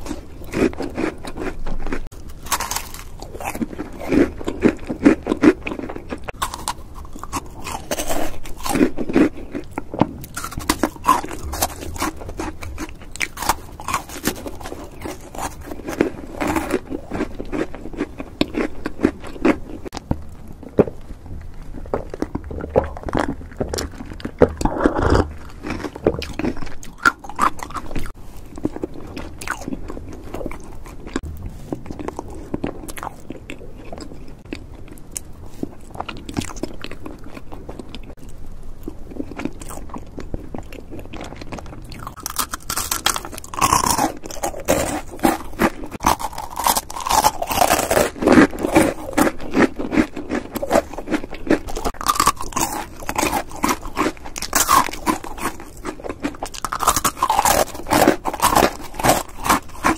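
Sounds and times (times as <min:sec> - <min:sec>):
crunching crisp snack: 0:00.0 - 0:59.9
soft chewing: 0:00.0 - 0:59.9.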